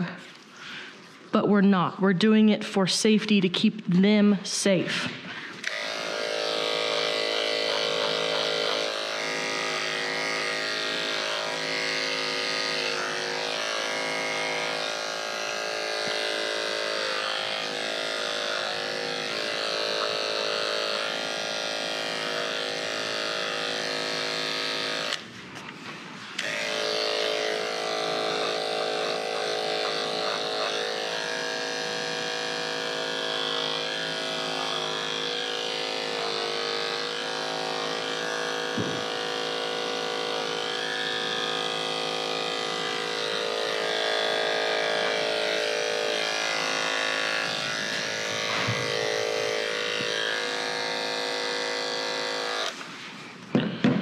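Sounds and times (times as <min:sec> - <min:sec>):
electric clippers humming: 0:00.0 - 0:00.9, 0:03.8 - 0:54.0.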